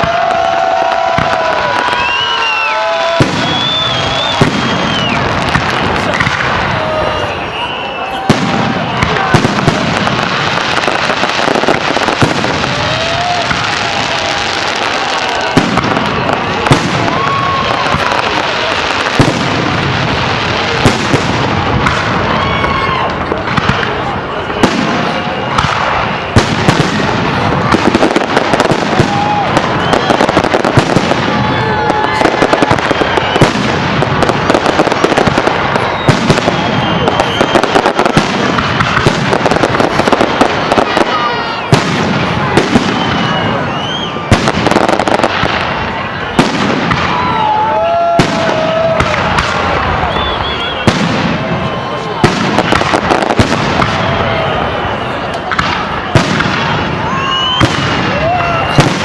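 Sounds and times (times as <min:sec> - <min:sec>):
fireworks crackling: 0:00.0 - 0:59.0
sharp firework bang: 0:03.2 - 0:07.0, 0:08.2 - 0:14.1, 0:19.1 - 0:54.5, 0:55.4 - 0:59.0.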